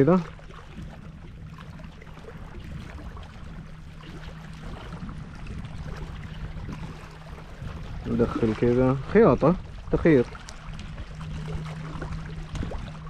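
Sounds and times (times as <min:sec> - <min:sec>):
sea water washing against rocks: 0:00.0 - 0:13.0.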